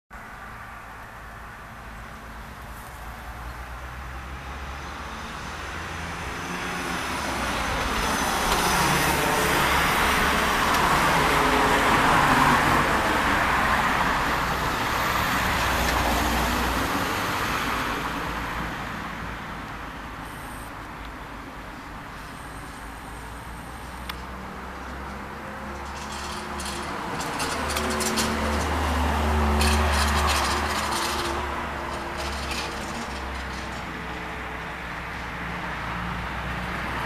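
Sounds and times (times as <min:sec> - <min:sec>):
vehicle passing by: 0:02.2 - 0:21.0, 0:22.0 - 0:37.0.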